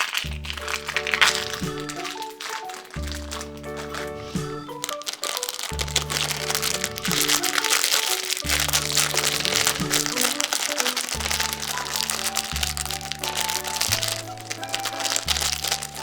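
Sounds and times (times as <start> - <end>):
background music: 0.0 - 16.0
foil wrapping crinkling: 0.0 - 16.0.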